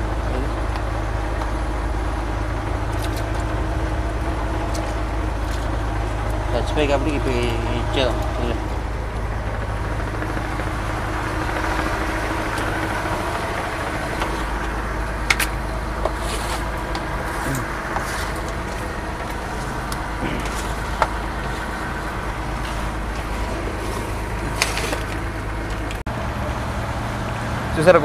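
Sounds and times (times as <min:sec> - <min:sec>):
boat engine drone: 0:00.0 - 0:28.0.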